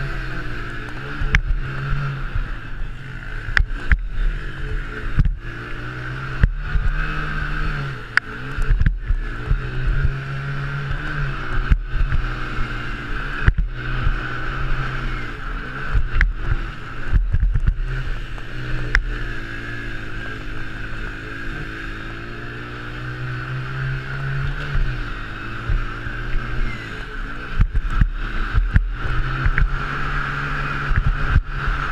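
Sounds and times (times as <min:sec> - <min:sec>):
quad engine revving: 0:00.0 - 0:31.9
wind rushing over camera: 0:00.0 - 0:31.9.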